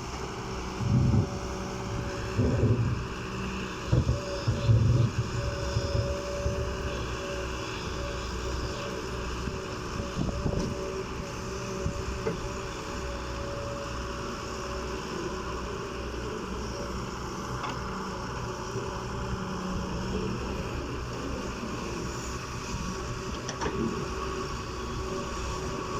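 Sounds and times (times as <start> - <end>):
excavator engine and hydraulics: 0.0 - 25.9.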